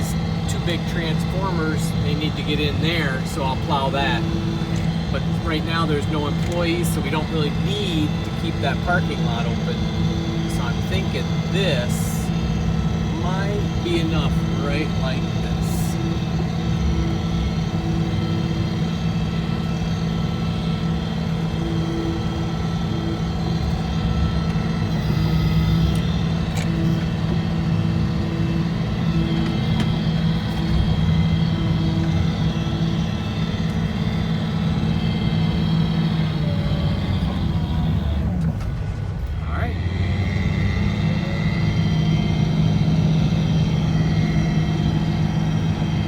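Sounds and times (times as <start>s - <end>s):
snow plow engine running: 0.0s - 46.0s.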